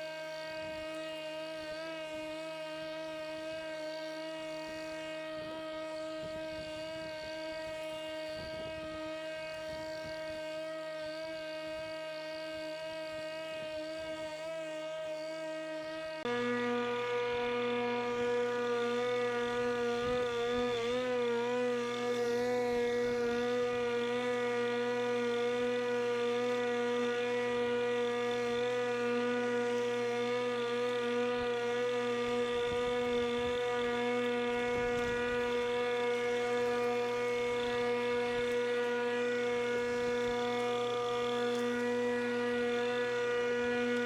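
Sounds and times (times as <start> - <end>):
electric lawnmower humming: 0.0 - 44.0.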